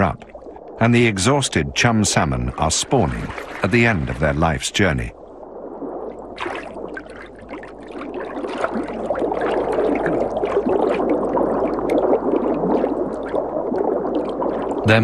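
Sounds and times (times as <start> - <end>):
river water splashing and gurgling: 0.0 - 4.6, 5.5 - 15.0.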